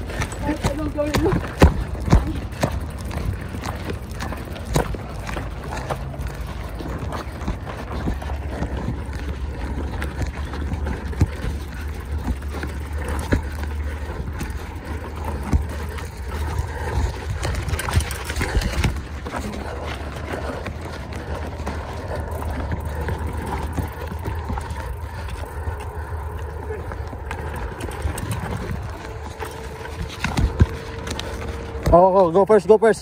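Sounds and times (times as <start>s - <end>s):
wind buffeting microphone: 0.0s - 31.8s
bike knocking and rattling: 0.0s - 33.0s.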